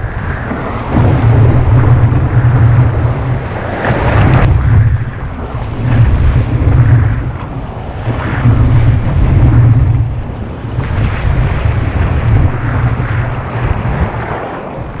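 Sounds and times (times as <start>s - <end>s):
whitewater breaking: 0.0s - 15.0s
wind buffeting microphone: 0.0s - 15.0s.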